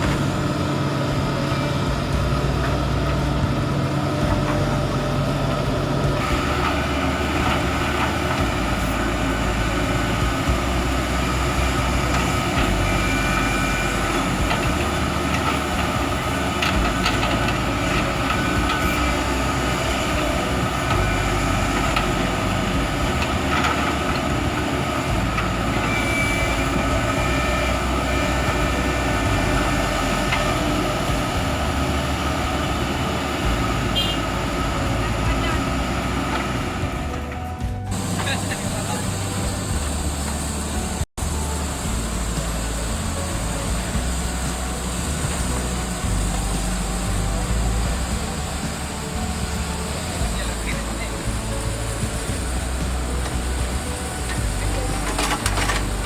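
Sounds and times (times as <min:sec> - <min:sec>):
excavator engine under load: 0:00.0 - 0:56.0
steady whine: 0:00.0 - 0:56.0.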